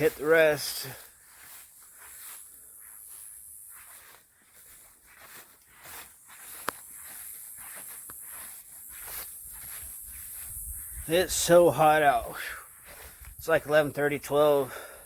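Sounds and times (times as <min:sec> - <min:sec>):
footsteps crunching through grass: 0:00.0 - 0:15.0.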